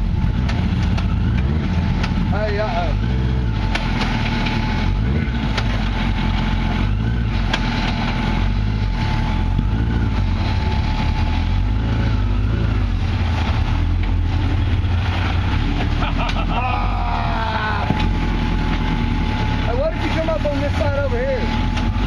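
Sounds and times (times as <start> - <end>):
buggy engine running under load: 0.0 - 22.0.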